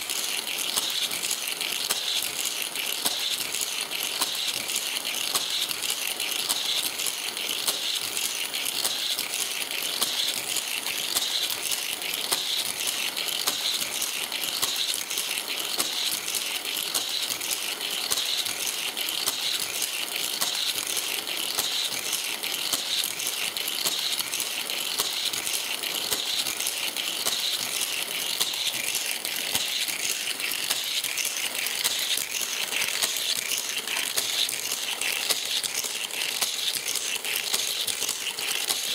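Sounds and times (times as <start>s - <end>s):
toy track clicking and rattling: 0.0s - 38.9s.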